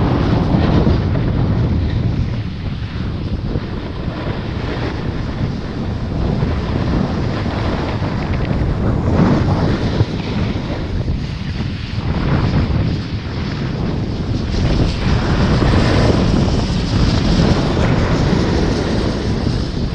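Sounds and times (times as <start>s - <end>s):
snowboard sliding on snow: 0.0s - 19.9s
wind buffeting microphone: 0.0s - 19.9s.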